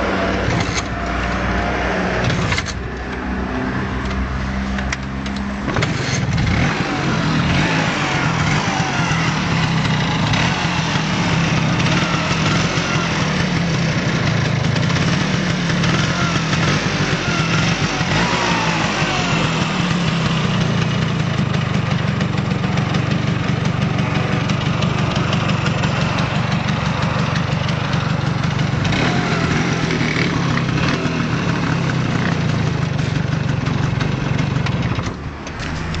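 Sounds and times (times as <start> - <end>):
scooter engine idling: 0.0 - 36.0.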